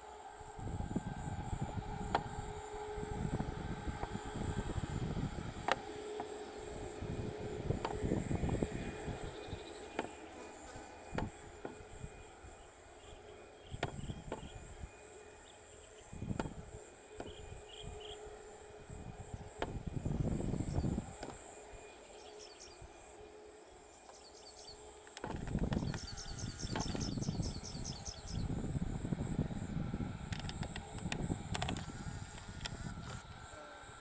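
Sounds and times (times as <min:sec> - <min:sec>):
insects trilling: 0:00.0 - 0:34.0
wind gusts on microphone: 0:00.4 - 0:15.0, 0:15.9 - 0:21.5, 0:25.2 - 0:34.0.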